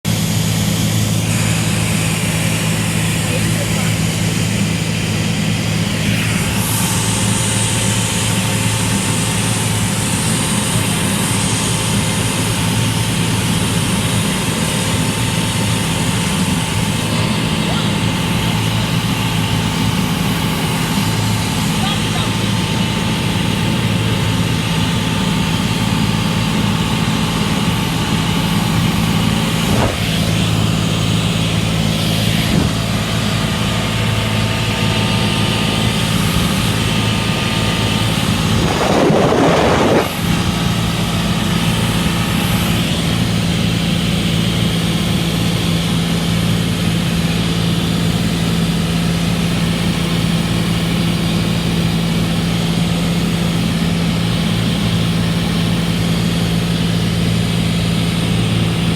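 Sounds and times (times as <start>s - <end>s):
propeller plane engine droning: 0.0s - 58.9s
rush of noise: 0.0s - 58.9s.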